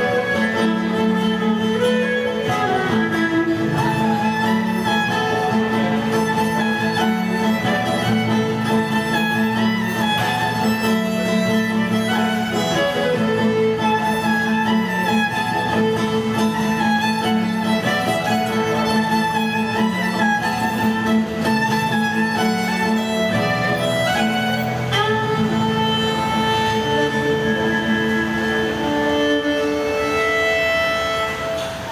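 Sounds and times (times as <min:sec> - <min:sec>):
acoustic guitar accompaniment: 0:00.0 - 0:31.9
fiddle melody: 0:00.0 - 0:31.9.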